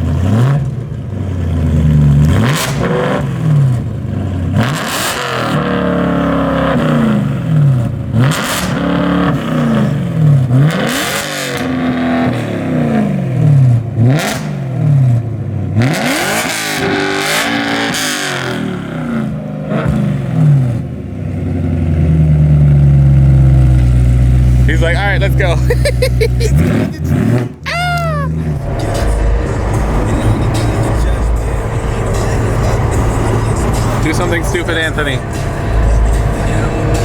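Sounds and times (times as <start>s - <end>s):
car engine revving: 0.0s - 27.6s, 28.3s - 37.0s.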